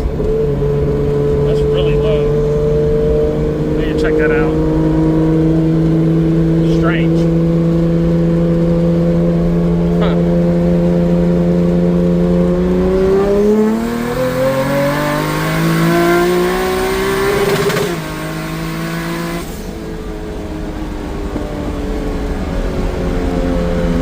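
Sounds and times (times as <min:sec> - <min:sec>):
turbo intake rushing: 0:00.0 - 0:21.4
car engine accelerating: 0:00.0 - 0:24.0.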